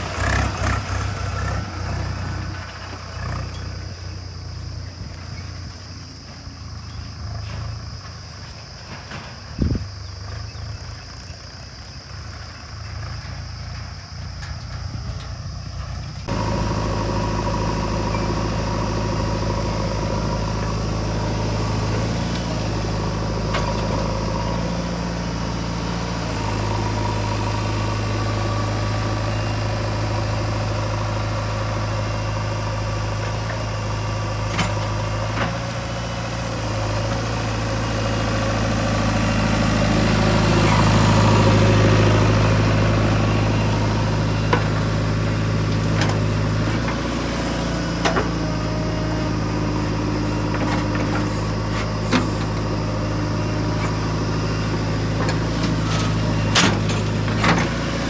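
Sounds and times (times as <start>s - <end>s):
diesel engines idling: 0.0s - 58.0s.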